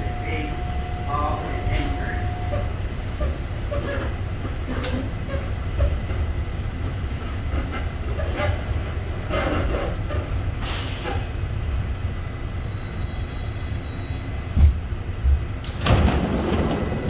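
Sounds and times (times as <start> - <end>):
subway train rumbling on track: 0.0 - 17.0.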